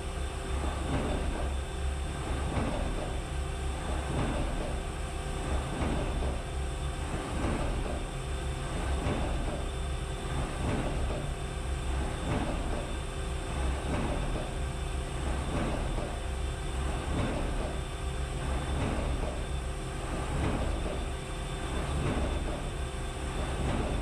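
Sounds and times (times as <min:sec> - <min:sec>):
machine running hum: 0:00.0 - 0:24.0.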